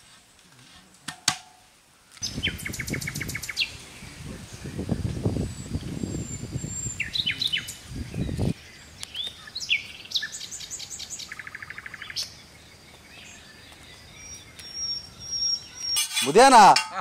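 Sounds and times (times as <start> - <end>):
birds chirping and trilling: 2.2 - 17.0.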